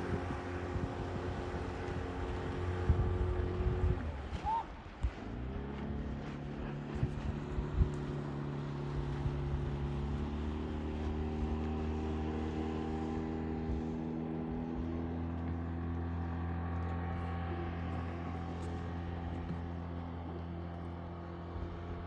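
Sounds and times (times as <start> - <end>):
outboard motor humming: 0.0 - 22.0.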